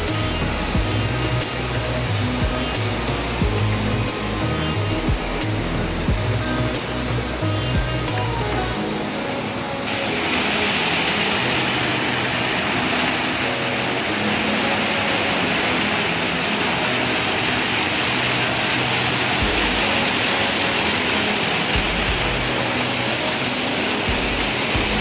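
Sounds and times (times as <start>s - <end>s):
waterfall rushing over boulders: 0.0s - 25.0s.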